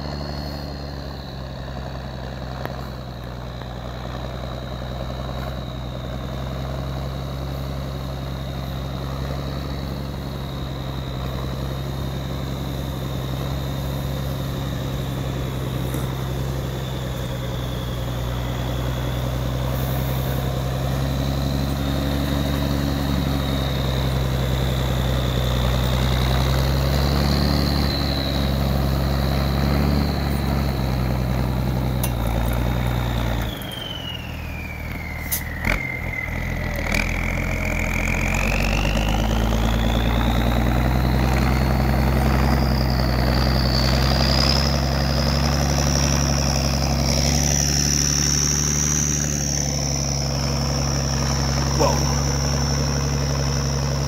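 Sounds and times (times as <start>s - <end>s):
high whine: 0.0s - 54.0s
truck diesel engine under load: 0.0s - 54.0s.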